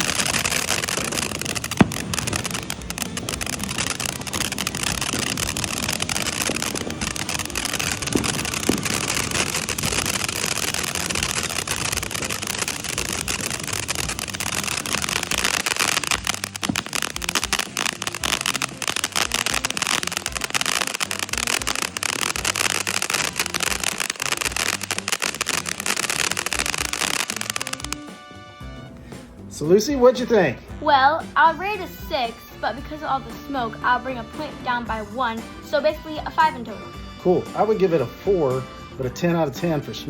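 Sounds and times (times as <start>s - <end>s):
firework fountain hissing and crackling: 0.0s - 33.8s.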